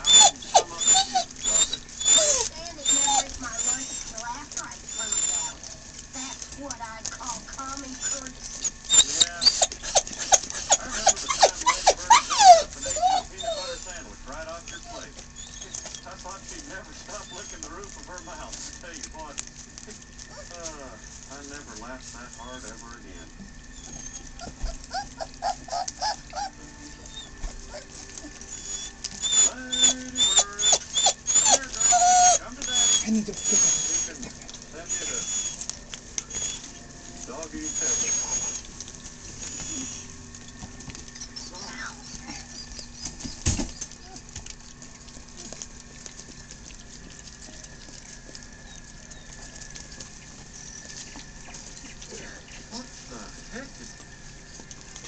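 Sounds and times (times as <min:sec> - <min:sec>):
puppies squeaking: 0:00.0 - 0:55.0.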